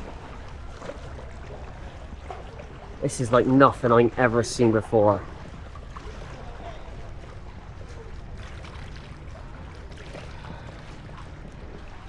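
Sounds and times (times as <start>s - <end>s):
paddle splashes: 0.0s - 12.0s
water splashing and trickling: 0.0s - 12.0s.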